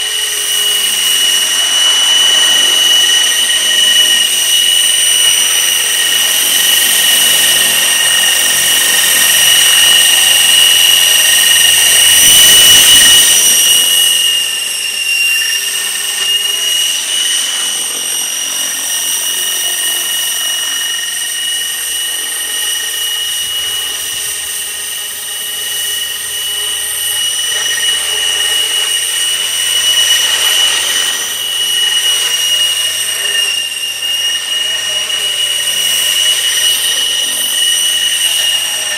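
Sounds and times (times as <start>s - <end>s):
rc helicopter high-pitched whine: 0.0s - 38.9s.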